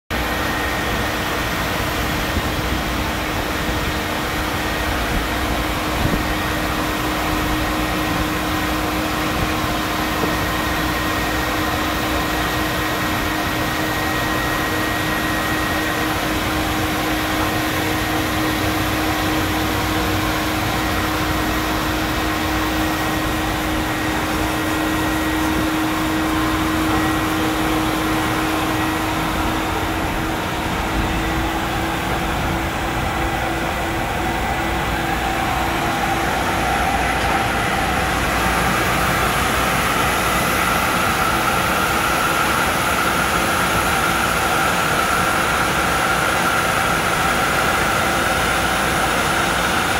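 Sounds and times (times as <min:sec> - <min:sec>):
machine humming and whining: 0:00.1 - 0:49.9.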